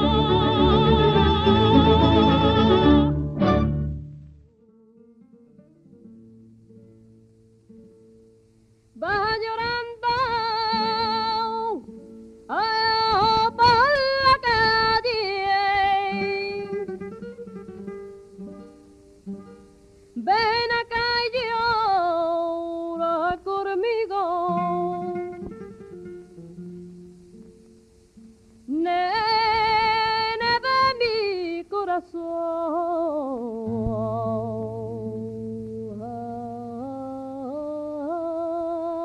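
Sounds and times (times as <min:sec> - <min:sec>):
flamenco singer wordless singing: 0:00.0 - 0:03.6, 0:08.9 - 0:27.7, 0:28.5 - 0:39.0
acoustic guitar: 0:00.0 - 0:39.0.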